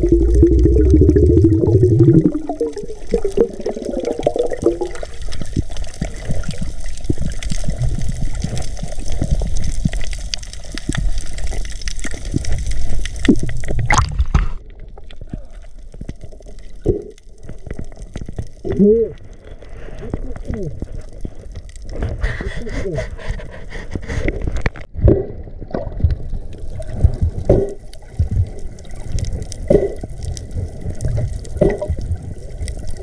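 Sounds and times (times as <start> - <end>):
water gurgling and splashing: 0.0 - 33.0.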